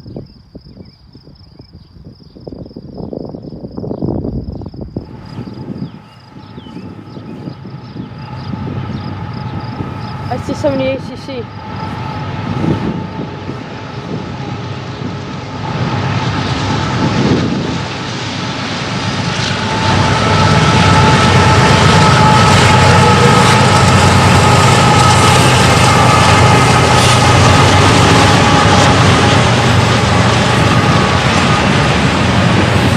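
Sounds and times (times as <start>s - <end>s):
diesel locomotive engines: 0.0s - 32.9s
steady whine: 4.3s - 32.9s.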